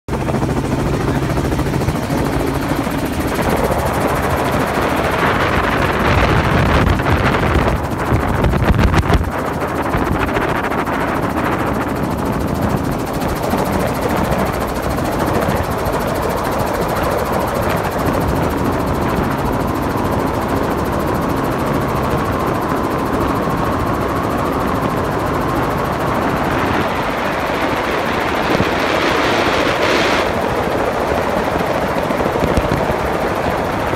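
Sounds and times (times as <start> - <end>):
helicopter engine and rotor: 0.1 - 33.9.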